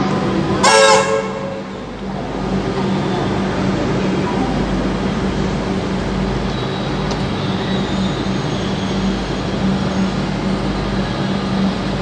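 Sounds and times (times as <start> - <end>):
electric train low hum: 0.0 - 12.0.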